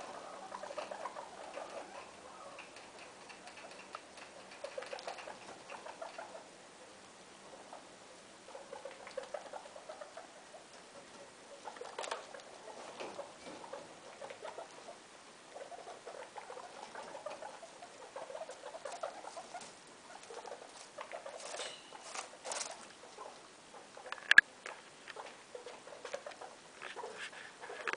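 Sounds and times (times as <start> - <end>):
guinea pigs squeaking: 0.0 - 27.9.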